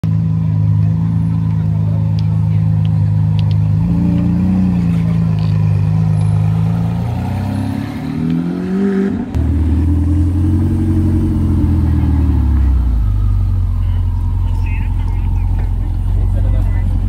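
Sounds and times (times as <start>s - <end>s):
car engine revving: 0.1s - 17.0s.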